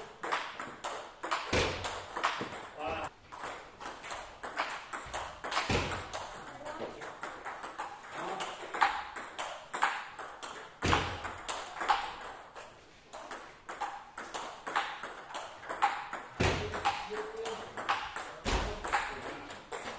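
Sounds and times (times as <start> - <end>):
table tennis ball hitting bats: 0.0 - 19.9
ball bouncing on table: 0.2 - 12.4, 13.2 - 19.9.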